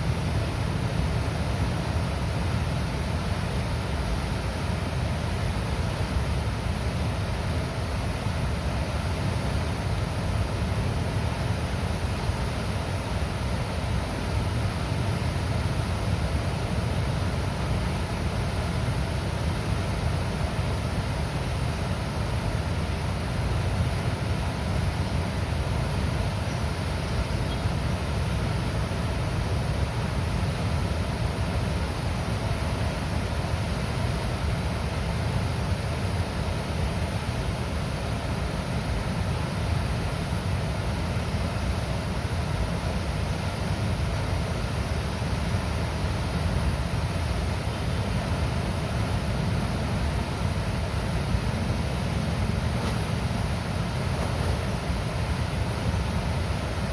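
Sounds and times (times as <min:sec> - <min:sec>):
water rushing from a dam: 0:00.0 - 0:56.9.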